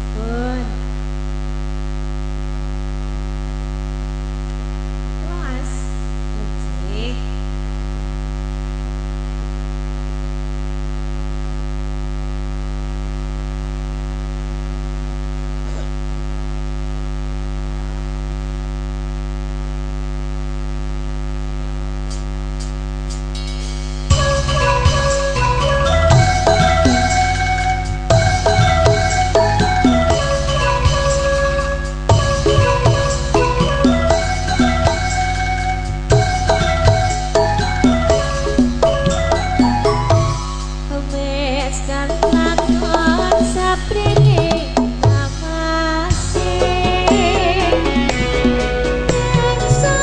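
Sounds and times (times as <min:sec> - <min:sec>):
electrical mains hum: 0:00.0 - 0:50.0.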